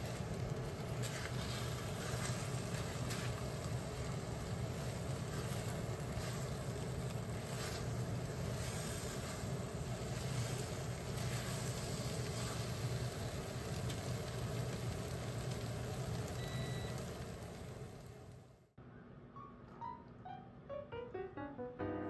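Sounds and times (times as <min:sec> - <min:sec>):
ladle stir-frying: 0:00.0 - 0:18.3
food sizzling in a wok: 0:00.0 - 0:18.5
steady low hum: 0:00.0 - 0:22.0.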